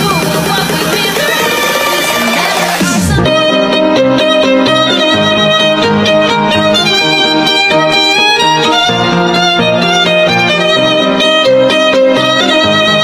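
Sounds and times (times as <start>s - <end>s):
melodic music with repeating bass: 0.0s - 13.0s.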